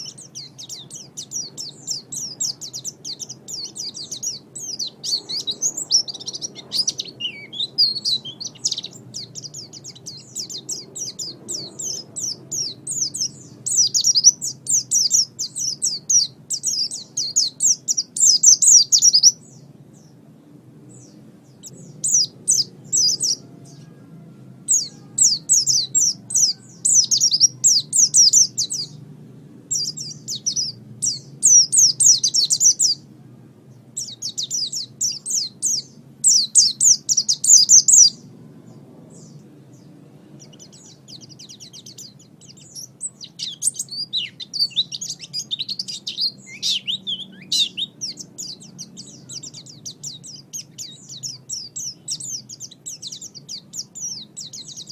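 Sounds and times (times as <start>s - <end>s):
bird twittering song: 0.0s - 54.9s.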